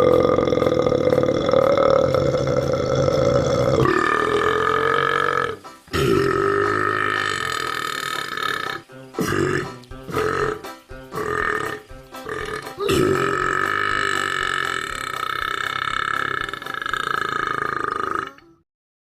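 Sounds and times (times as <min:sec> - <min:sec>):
frog screaming: 0:00.0 - 0:10.6, 0:11.2 - 0:18.5.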